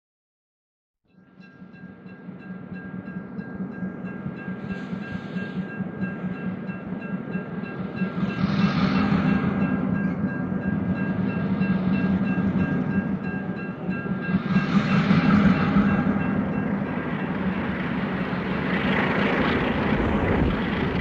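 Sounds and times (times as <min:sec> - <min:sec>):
diesel locomotives passing: 0:01.2 - 0:21.0
train rolling noise: 0:01.2 - 0:21.0.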